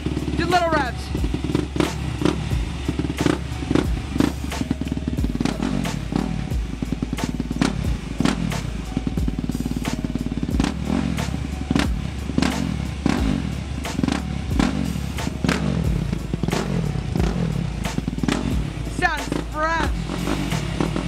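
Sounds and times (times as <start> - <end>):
motorcycle engine revving: 0.0 - 21.0
music with a beat: 0.0 - 21.0.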